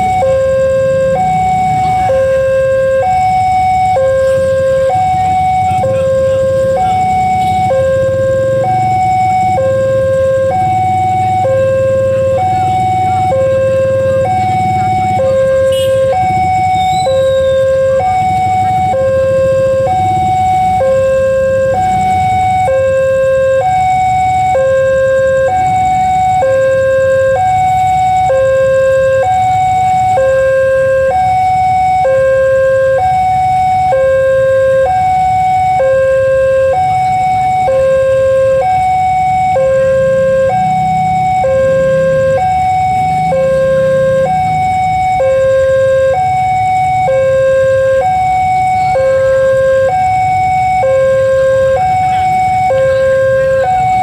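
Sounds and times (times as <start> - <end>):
two-tone crossing alarm: 0.0 - 54.0.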